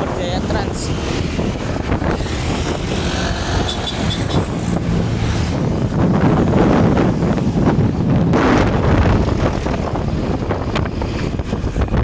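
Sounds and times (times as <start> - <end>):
passing traffic: 0.0 - 12.0
wind buffeting microphone: 0.0 - 12.0.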